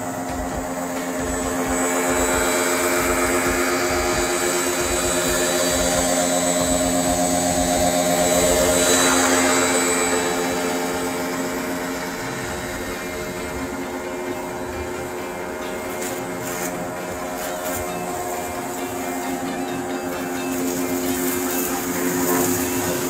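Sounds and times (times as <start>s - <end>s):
high-pressure water spray hiss: 0.0s - 15.0s, 15.7s - 23.0s
pressure washer motor humming: 0.0s - 23.0s.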